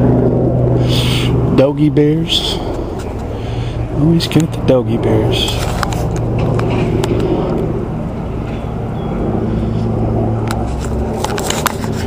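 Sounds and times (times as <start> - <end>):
deep hum: 0.0 - 12.0
low engine drone: 0.0 - 12.0.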